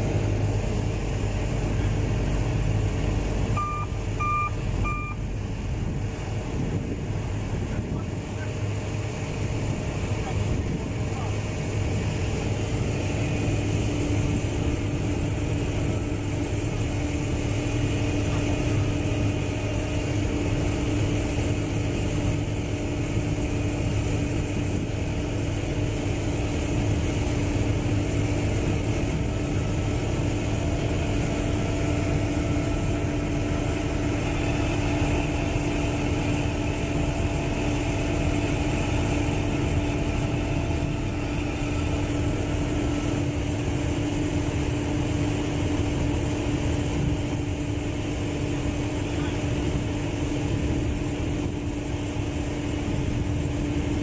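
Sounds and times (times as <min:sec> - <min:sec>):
diesel engines idling: 0:00.0 - 0:54.0.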